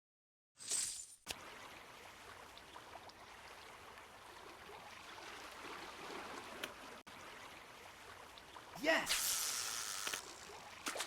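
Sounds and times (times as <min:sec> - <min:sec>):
flowing water: 0:01.3 - 0:11.0.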